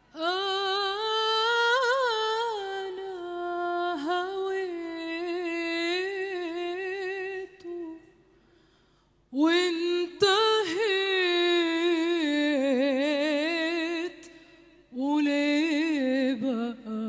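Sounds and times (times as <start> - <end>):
woman singing unaccompanied: 0.0 - 8.1, 9.3 - 17.0.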